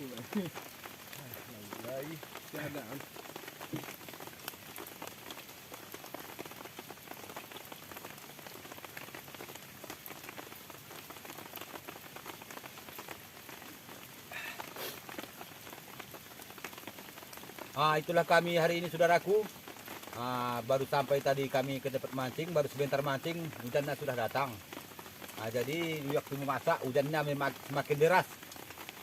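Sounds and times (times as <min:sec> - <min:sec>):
heavy rain falling: 0:00.0 - 0:29.0
raindrops tapping close by: 0:00.0 - 0:29.0.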